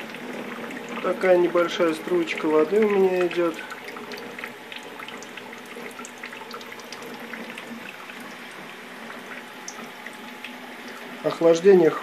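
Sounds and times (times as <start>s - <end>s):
water trickling into metal sink: 0.0s - 12.0s.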